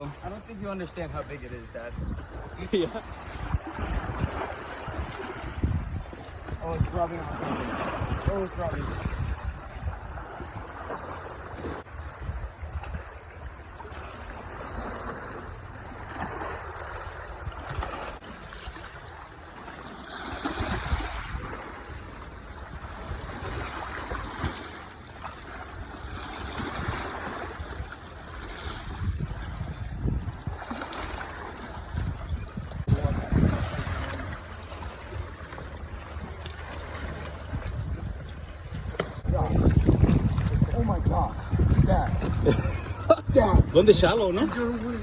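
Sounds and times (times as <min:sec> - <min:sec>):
river water washing along bank: 0:00.0 - 0:45.0
gusty wind on microphone: 0:01.7 - 0:18.2, 0:20.2 - 0:24.6, 0:26.0 - 0:35.4, 0:37.0 - 0:45.0.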